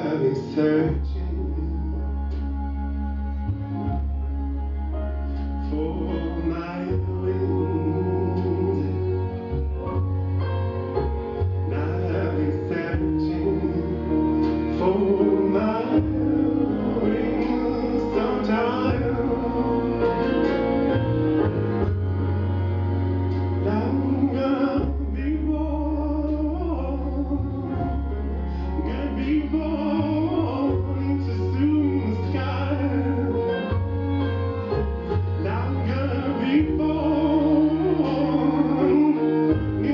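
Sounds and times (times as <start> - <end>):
recorded song with singing: 0.0 - 2.6, 5.6 - 9.5, 11.7 - 34.2, 35.2 - 39.9.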